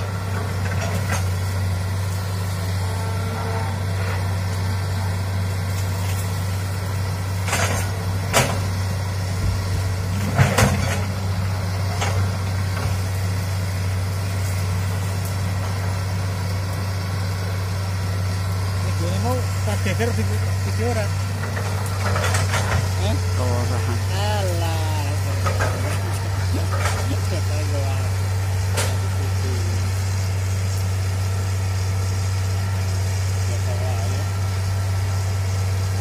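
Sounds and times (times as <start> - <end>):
excavator diesel engine droning: 0.0 - 36.0.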